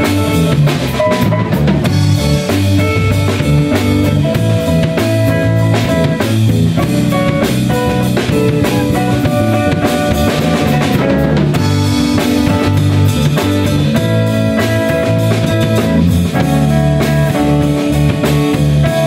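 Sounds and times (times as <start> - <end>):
drum kit: 0.0 - 19.0
electric guitar: 0.0 - 19.0
held low notes: 0.0 - 19.0.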